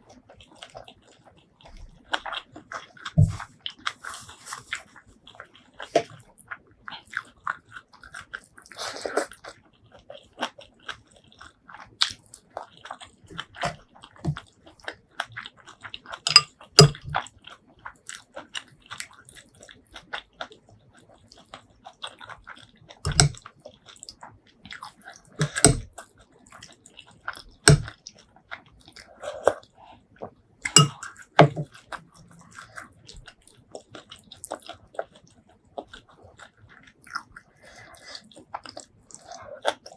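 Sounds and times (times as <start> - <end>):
close chewing with wet mouth clicks: 0.0 - 39.9.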